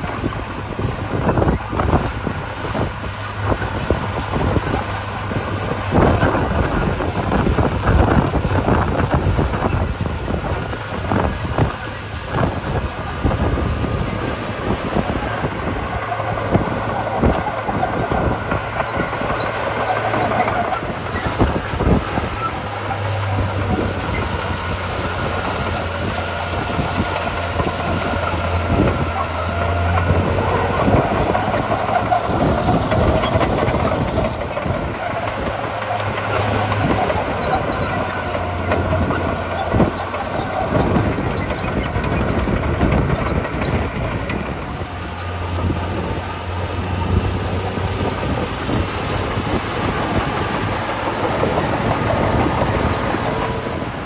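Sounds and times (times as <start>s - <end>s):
bulldozer diesel engine running: 0.0s - 54.0s
steel tracks clanking: 0.0s - 54.0s.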